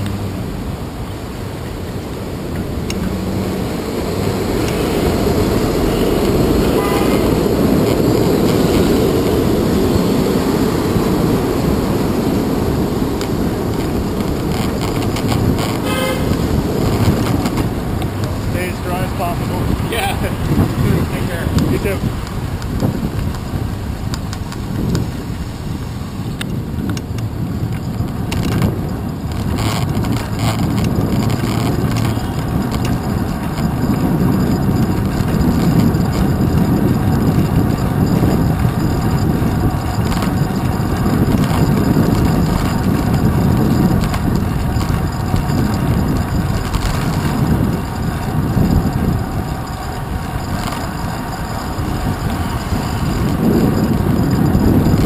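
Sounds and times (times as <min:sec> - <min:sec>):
car and van engines: 0:00.0 - 0:55.0
road and wind noise: 0:00.0 - 0:55.0.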